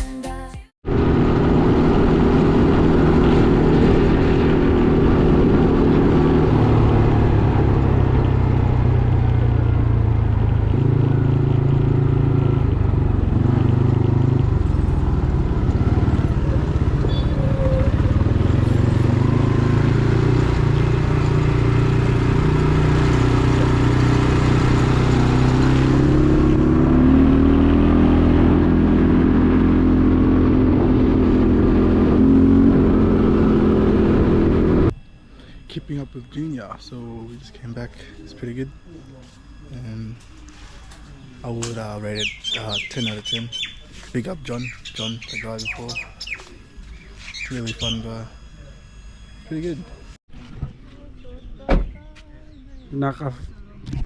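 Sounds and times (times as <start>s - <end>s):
quad bike engine running: 0.9s - 50.2s.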